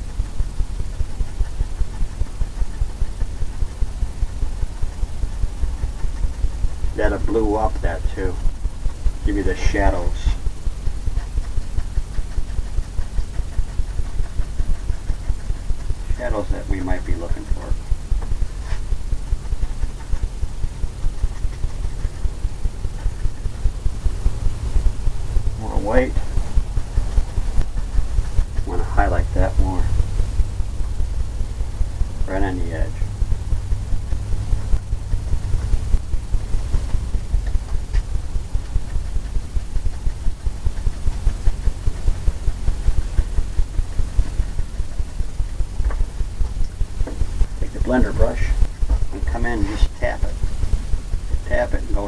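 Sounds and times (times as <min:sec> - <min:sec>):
paintbrush dabbing on canvas: 0:00.0 - 0:52.0
steady low rumble: 0:00.0 - 0:52.0.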